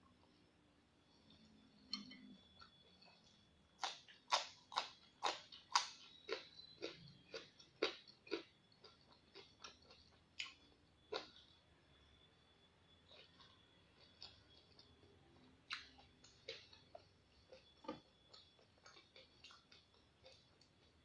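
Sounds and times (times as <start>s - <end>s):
chewing crisp raw vegetables: 2.6s - 11.6s, 13.1s - 21.0s.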